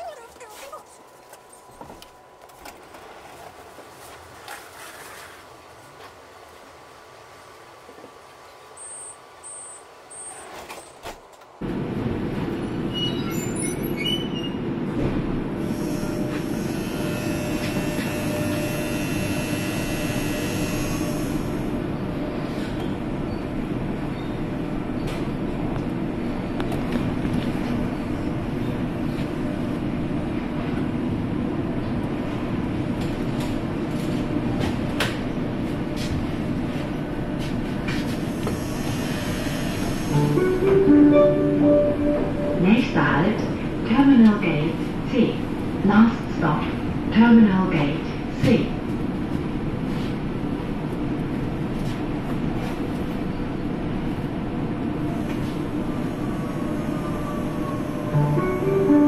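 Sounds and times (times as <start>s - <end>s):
monorail car droning: 5.5s - 59.0s.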